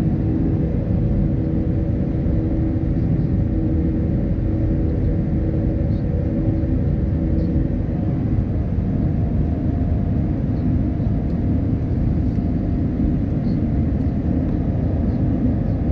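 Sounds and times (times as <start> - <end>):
faint hum: 0.0 - 15.9
jet engine rumble: 0.0 - 15.9.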